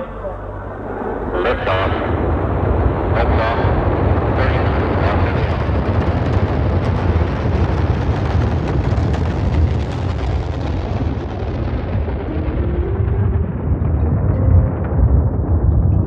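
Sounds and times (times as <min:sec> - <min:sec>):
rocket launch roar: 0:00.7 - 0:16.0.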